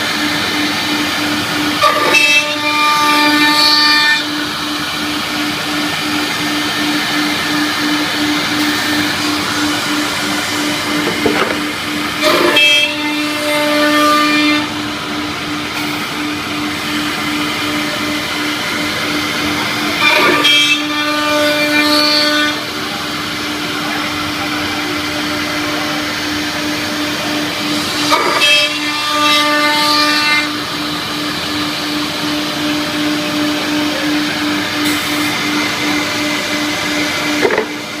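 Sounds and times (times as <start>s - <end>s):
drilling machine humming: 0.0s - 38.0s
multi-tone machine whine: 0.0s - 38.0s.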